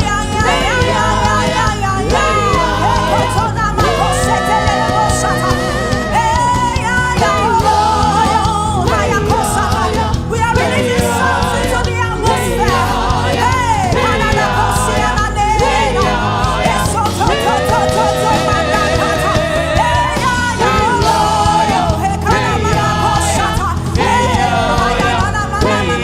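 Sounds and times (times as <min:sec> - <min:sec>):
band backing: 0:00.0 - 0:26.0
lead voice singing: 0:00.0 - 0:26.0.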